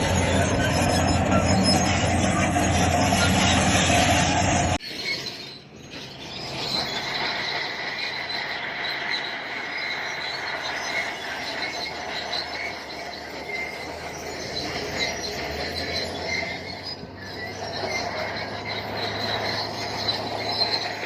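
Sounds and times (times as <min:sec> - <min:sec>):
steady machine noise: 0:00.0 - 0:04.8, 0:06.3 - 0:21.0
bulldozer engine running: 0:00.0 - 0:21.0
steel tracks squealing: 0:00.0 - 0:21.0.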